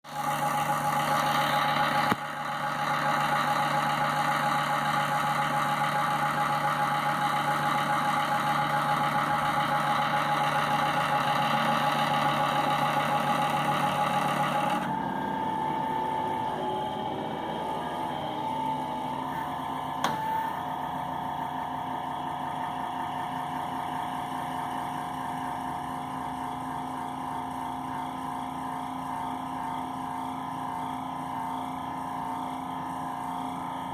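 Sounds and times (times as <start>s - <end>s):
power supply whining hum: 0.1s - 33.9s.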